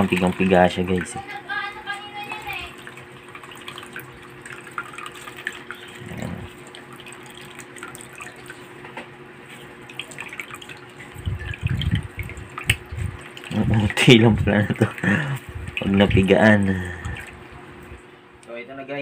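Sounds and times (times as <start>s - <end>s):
small wet splashes: 0.0s - 8.8s, 9.5s - 18.1s
water dripping and trickling: 0.0s - 8.8s, 9.5s - 18.1s.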